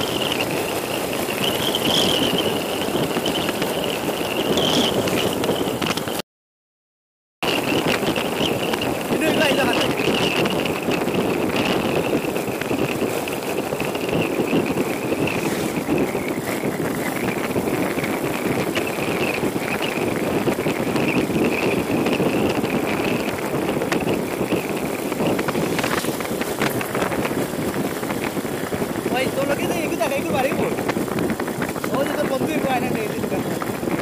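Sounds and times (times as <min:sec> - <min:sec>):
motorcycle engine running: 0:00.0 - 0:06.2, 0:07.4 - 0:34.0
road noise: 0:00.0 - 0:06.2, 0:07.4 - 0:34.0
wind noise: 0:00.0 - 0:06.2, 0:07.4 - 0:34.0.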